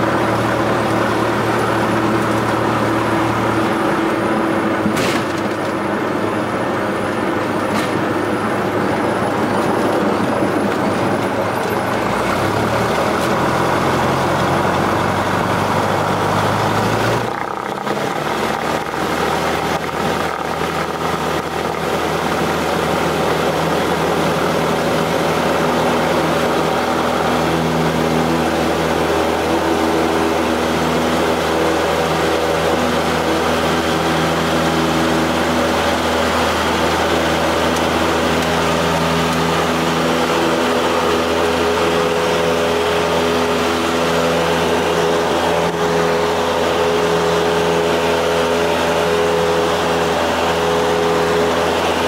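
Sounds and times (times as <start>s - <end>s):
light aircraft engine and propeller: 0.0s - 52.0s.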